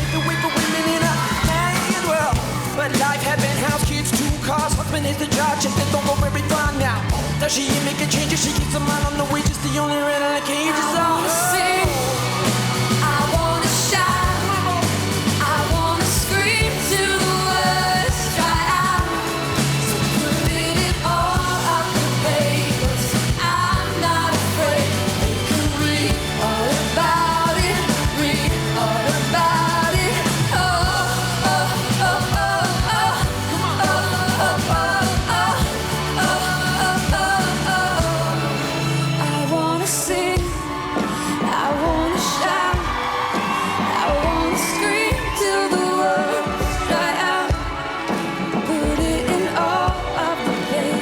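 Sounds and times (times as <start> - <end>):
duet singing wordless lines: 0.0 - 43.1
band backing: 0.0 - 51.0.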